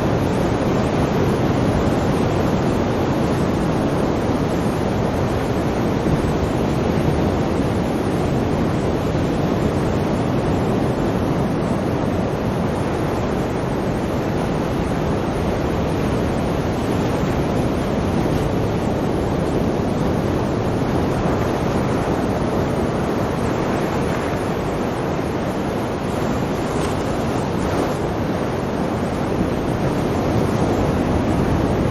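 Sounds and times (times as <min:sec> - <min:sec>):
sea waves breaking: 0:00.0 - 0:31.9.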